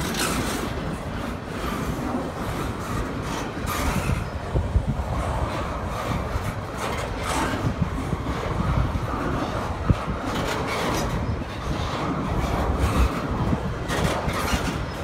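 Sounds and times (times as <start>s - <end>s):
freight train rattling past: 0.0s - 15.0s.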